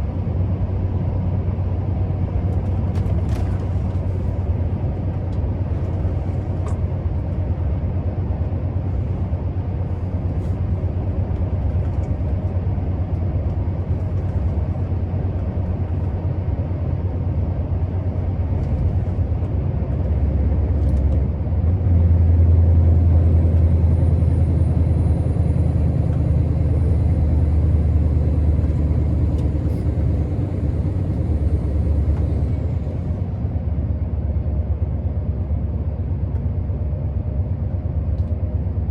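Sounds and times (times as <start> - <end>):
diesel truck engine running: 0.0 - 38.9
road noise: 0.0 - 38.9.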